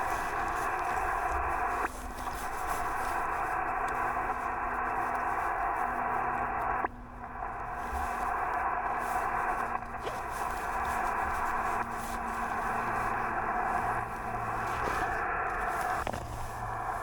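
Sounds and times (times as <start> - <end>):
radio band noise hiss: 0.0 - 17.0.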